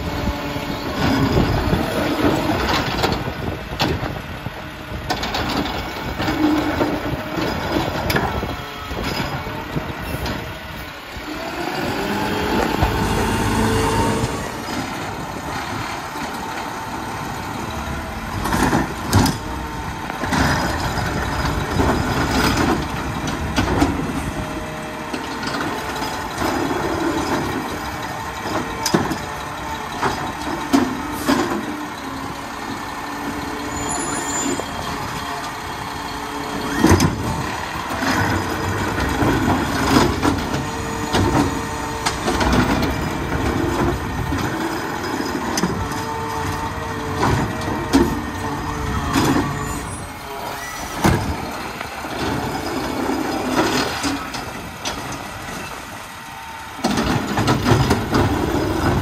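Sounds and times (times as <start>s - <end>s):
garbage truck engine and hydraulics: 0.0s - 59.0s
trash carts clanking against hopper: 0.0s - 59.0s.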